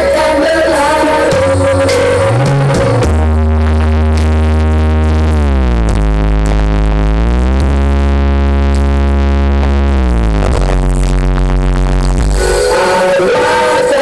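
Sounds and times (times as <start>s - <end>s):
electronic dance music: 0.0s - 14.0s
sliding synthesizer bass note: 0.0s - 14.0s.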